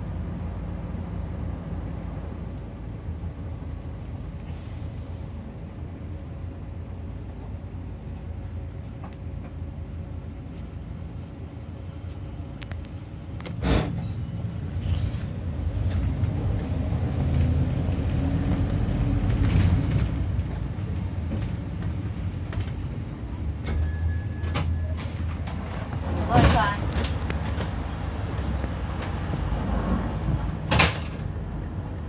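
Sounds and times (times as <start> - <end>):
minibus engine running: 0.0 - 32.0.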